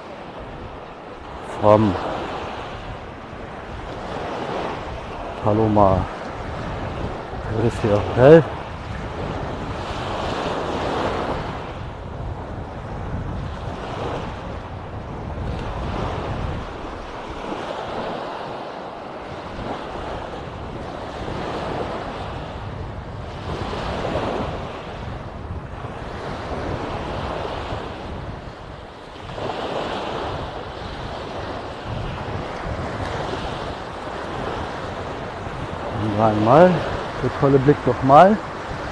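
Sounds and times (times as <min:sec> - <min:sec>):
small waves breaking on shore: 0:00.0 - 0:38.9.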